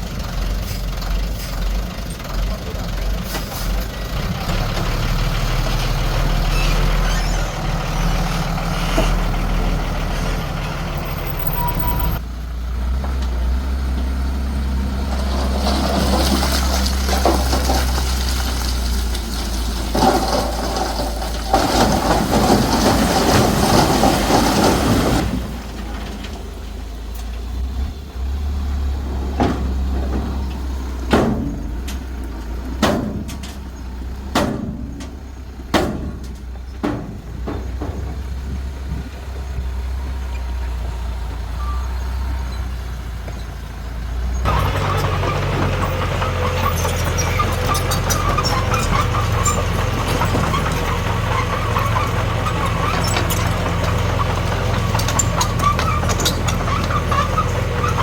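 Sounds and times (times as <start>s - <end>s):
diesel earthmoving machinery running: 0.0s - 58.0s.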